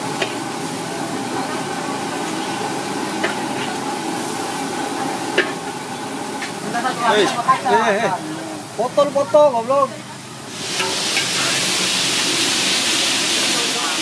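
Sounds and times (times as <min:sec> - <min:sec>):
wok sizzling: 0:00.0 - 0:14.0.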